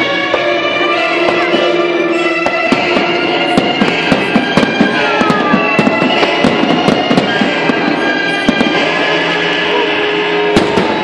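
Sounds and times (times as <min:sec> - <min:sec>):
fireworks bursting and crackling: 0:00.0 - 0:11.0
music: 0:00.0 - 0:11.0.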